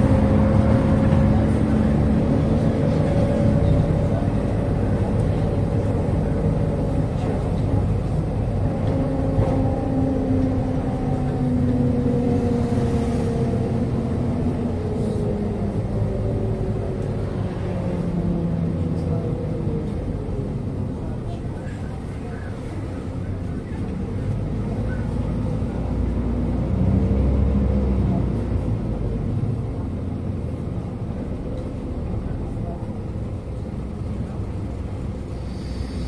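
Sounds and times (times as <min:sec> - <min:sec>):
bus engine running: 0:00.0 - 0:36.0
road noise: 0:00.0 - 0:36.0.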